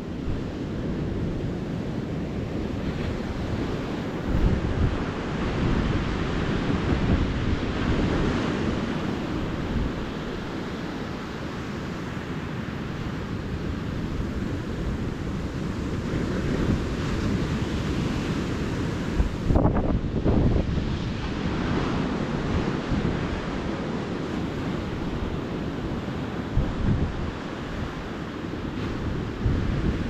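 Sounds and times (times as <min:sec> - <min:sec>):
ocean surf washing onto beach: 0:00.0 - 0:30.0
wind rumbling on microphone: 0:00.0 - 0:30.0.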